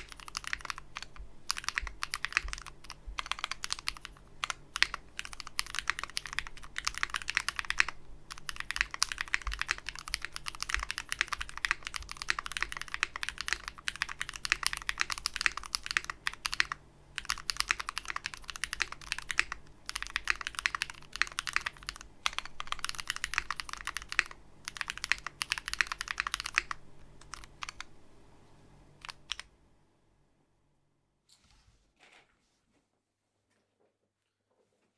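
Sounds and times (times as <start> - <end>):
mechanical keyboard typing: 0.0 - 27.9, 29.0 - 29.5.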